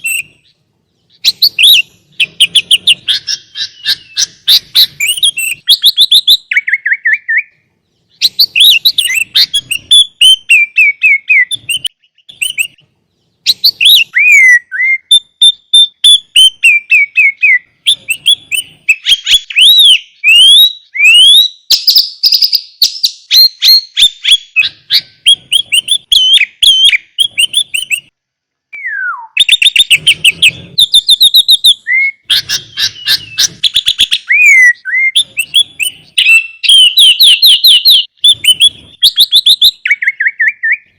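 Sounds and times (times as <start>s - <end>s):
bird singing chirps and trills: 0.0s - 28.2s, 28.8s - 40.9s.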